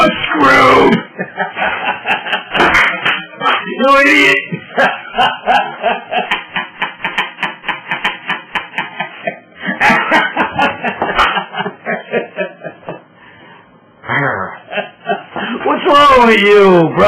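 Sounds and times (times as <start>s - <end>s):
man laughing hard: 0.0s - 13.1s, 14.1s - 15.7s.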